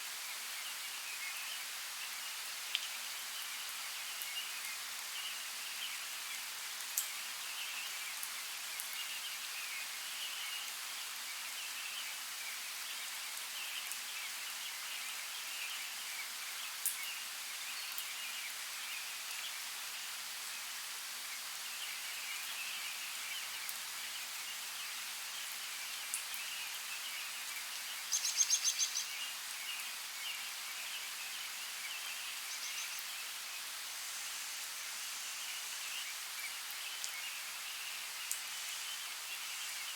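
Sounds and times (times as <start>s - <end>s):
faint chirping birds or insects: 0.0s - 39.9s
running water hiss: 0.0s - 39.9s.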